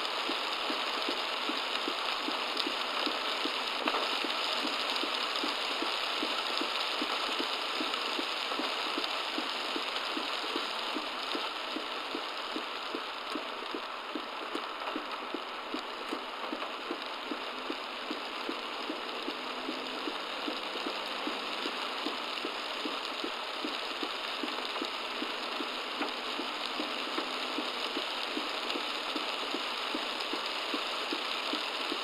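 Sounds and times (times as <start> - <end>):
heavy rain on a car: 0.0 - 32.0.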